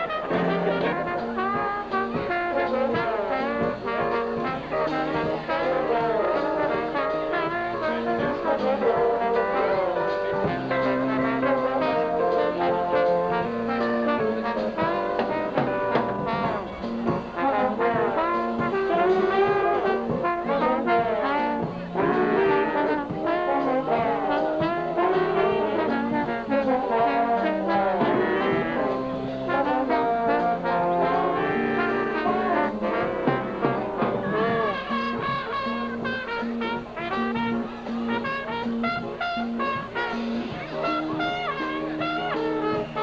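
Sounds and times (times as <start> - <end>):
brass band playing: 0.0 - 43.0.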